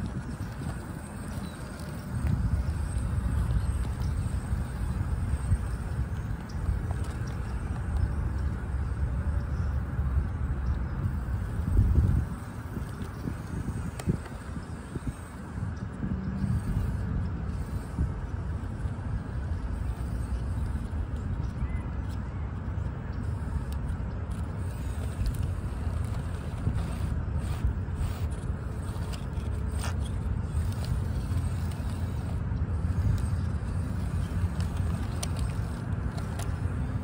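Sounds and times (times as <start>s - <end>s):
toy car tyres scraping on bark: 0.0s - 22.2s, 22.8s - 37.0s
steady low rumble: 0.0s - 37.0s.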